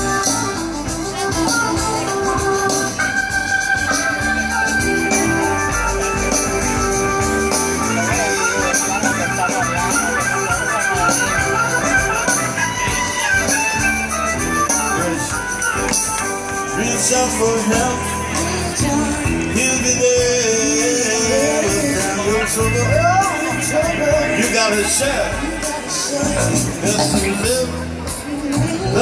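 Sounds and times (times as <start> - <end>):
live band instrumental music: 0.0 - 29.0.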